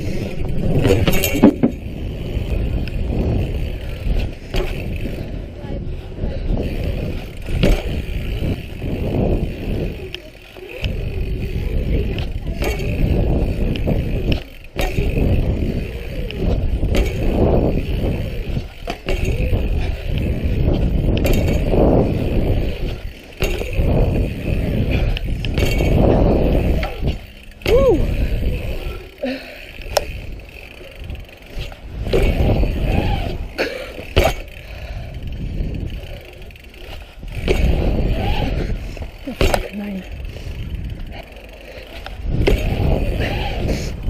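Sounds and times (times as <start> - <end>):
sharp knocks of bike landings: 0.0 - 5.4, 6.6 - 44.0
bike tyres rolling on concrete: 0.0 - 44.0
wind rumbling on microphone: 0.0 - 44.0.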